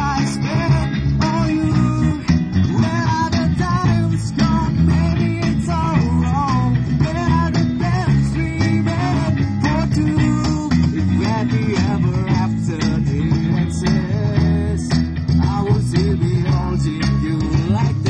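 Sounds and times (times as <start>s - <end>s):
electric guitar playing: 0.0s - 18.0s
steady bass line: 0.0s - 18.0s.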